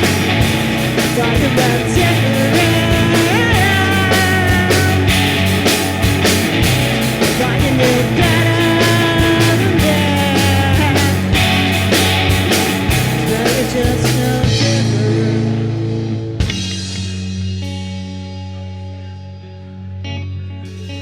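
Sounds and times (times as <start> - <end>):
drums: 0.0 - 21.0
guitar ringing: 0.0 - 21.0
rock band playing: 0.0 - 21.0.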